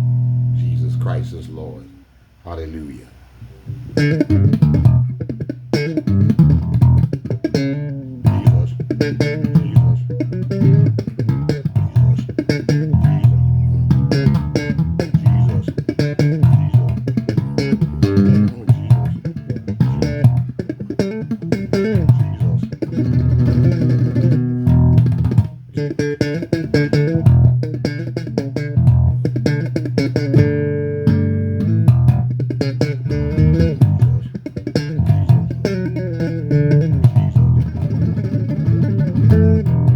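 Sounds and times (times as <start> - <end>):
electric bass guitar playing: 0.0 - 2.1, 3.4 - 39.9.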